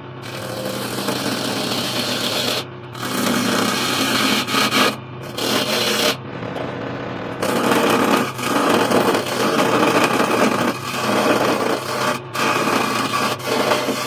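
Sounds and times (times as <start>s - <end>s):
lathe motor hum: 0.0s - 14.0s
chisel scraping wood on lathe: 0.2s - 6.2s, 7.4s - 14.0s.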